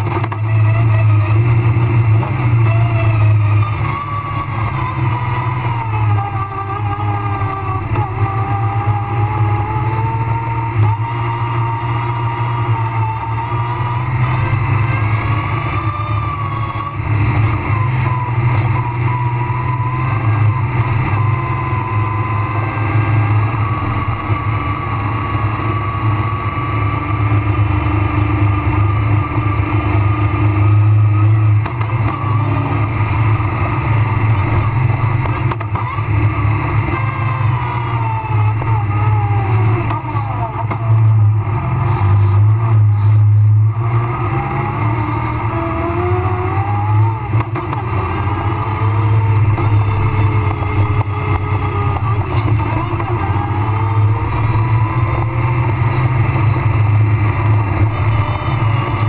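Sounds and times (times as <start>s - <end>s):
rally car engine under load: 0.0s - 59.0s.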